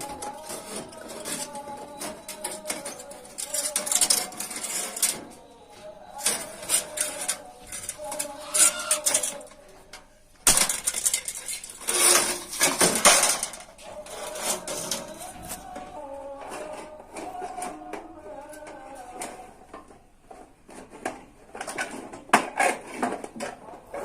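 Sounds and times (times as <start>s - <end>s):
sheet metal clattering and scraping: 0.0s - 24.0s.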